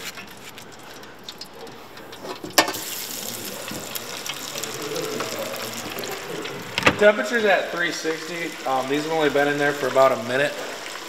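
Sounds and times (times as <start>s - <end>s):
meat sizzling in deep fryer: 0.0s - 11.0s.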